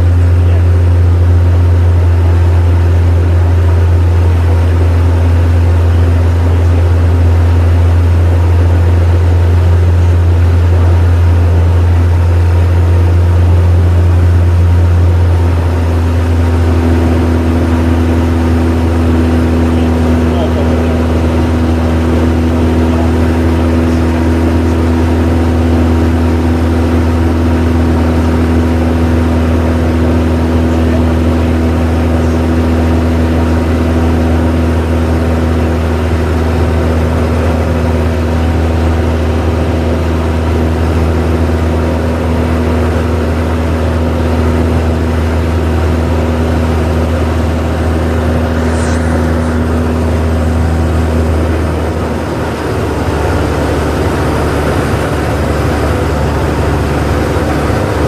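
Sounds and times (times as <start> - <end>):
light aircraft engine drone: 0.0 - 58.0.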